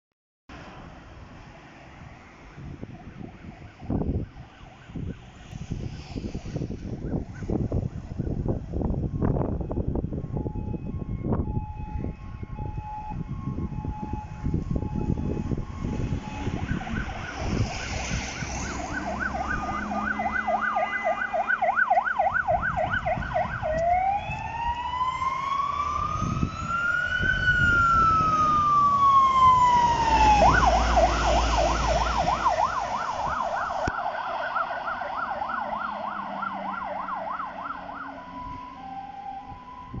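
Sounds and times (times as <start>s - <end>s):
fire engine siren: 1.9s - 40.0s.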